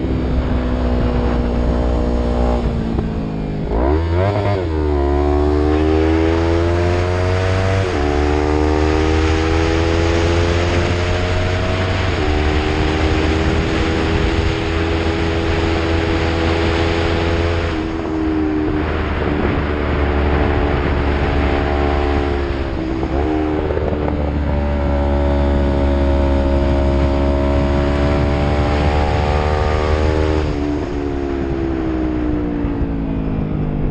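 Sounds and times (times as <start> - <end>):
motorcycle engine revving: 0.0 - 33.9
wind noise: 0.0 - 33.9.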